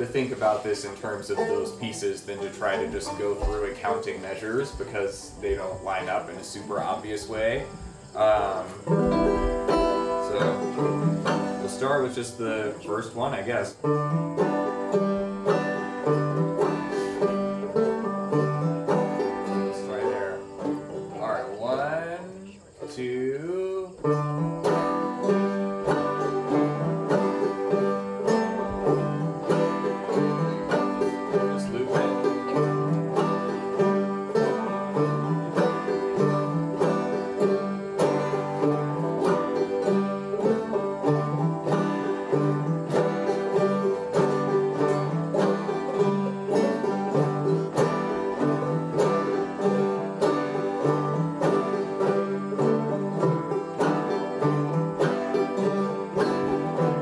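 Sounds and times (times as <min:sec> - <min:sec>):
banjo plucked and strummed: 0:00.0 - 0:57.0.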